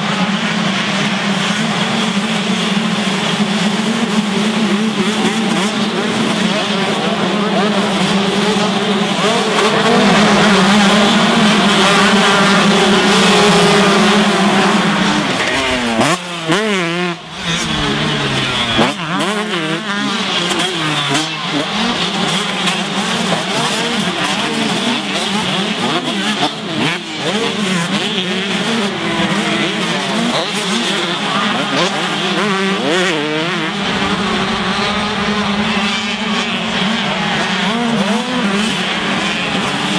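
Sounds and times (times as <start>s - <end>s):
motocross bikes racing: 0.0s - 39.9s
motorbike revving up and down: 0.0s - 39.9s.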